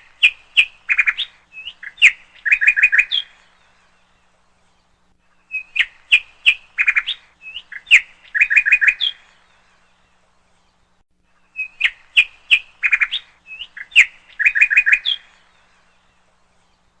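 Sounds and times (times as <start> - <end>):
songbird chirping and whistling: 0.0 - 10.0, 11.4 - 17.0.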